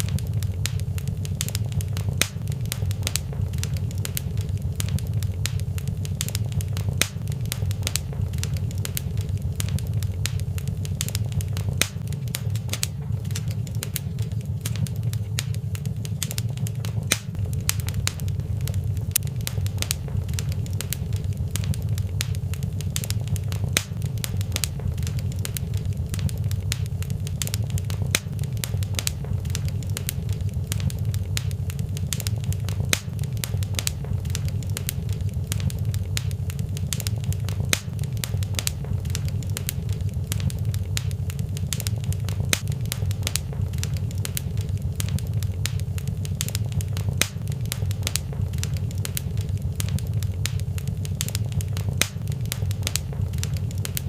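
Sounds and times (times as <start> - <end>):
fireplace fire crackling: 0.0 - 54.0
sharp pops and snaps: 0.0 - 54.0.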